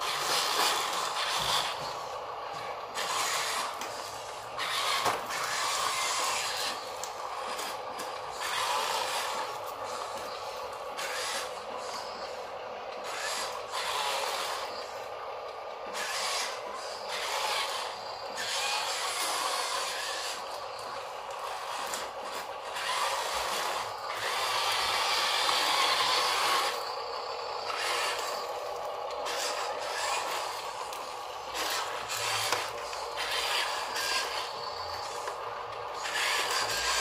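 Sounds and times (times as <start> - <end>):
toy truck motor whirring: 0.0 - 37.0.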